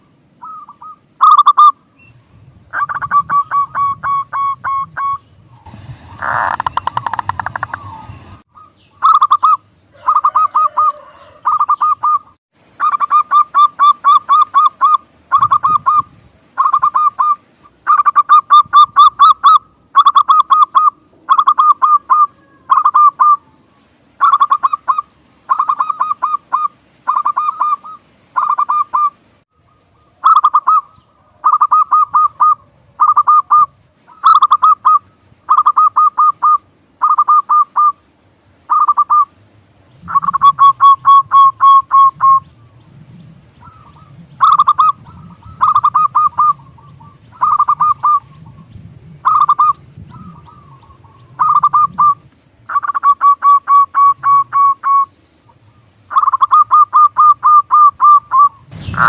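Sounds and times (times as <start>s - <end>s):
doves cooing trills: 2.7s - 5.2s, 6.1s - 39.4s, 40.0s - 59.0s.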